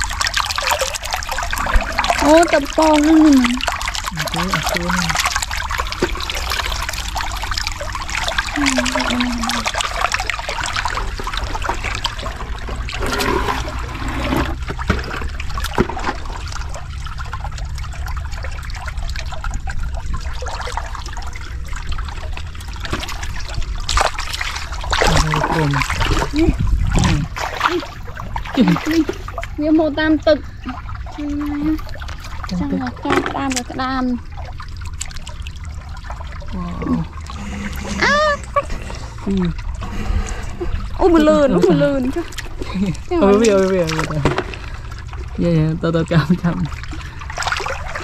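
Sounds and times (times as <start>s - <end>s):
floodwater running over rocks: 0.0s - 48.0s
water splashes: 0.0s - 48.0s.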